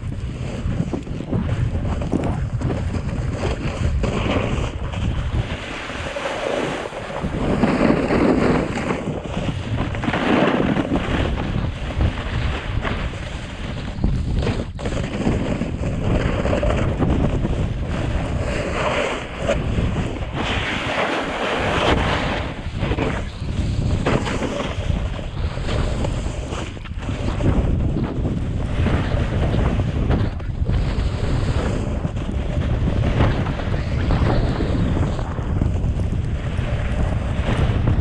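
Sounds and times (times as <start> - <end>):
sliding over snow: 0.0 - 38.0
wind buffeting microphone: 0.0 - 38.0.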